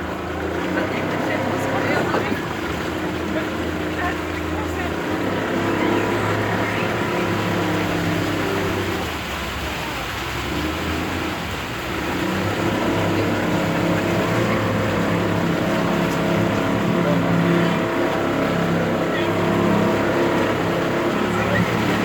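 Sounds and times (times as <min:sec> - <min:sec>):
boat engine droning: 0:00.0 - 0:22.0
water wash: 0:00.0 - 0:22.0.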